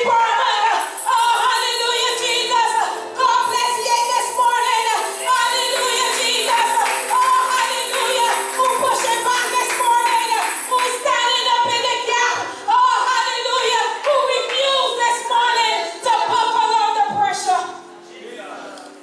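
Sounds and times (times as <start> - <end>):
gospel singing: 0.0 - 18.5.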